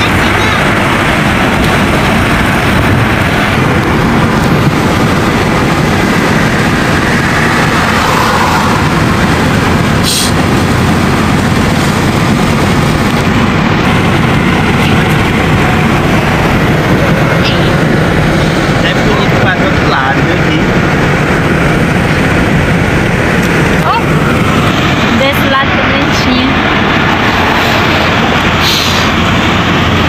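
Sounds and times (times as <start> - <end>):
car road and wind noise: 0.0 - 30.0.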